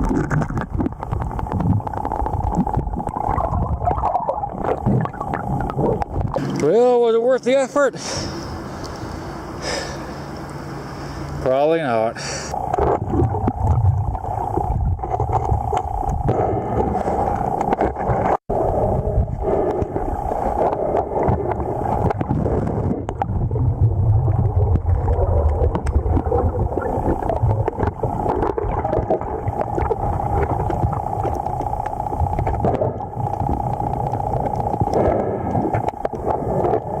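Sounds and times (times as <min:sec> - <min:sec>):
river current underwater: 0:00.0 - 0:37.0.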